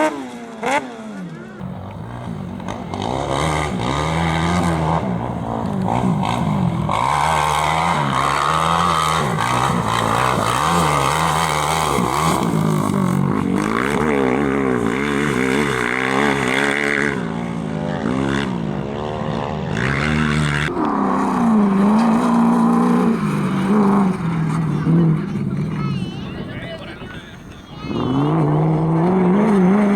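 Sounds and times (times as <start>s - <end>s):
racing engine revving: 0.0s - 29.9s.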